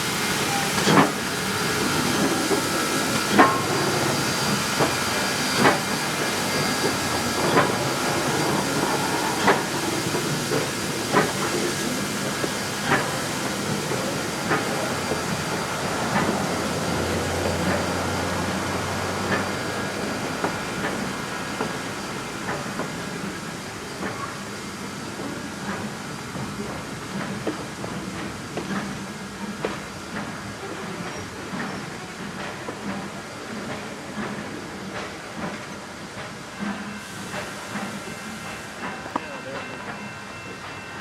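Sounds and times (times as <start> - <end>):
steam locomotive hissing: 0.0 - 41.0.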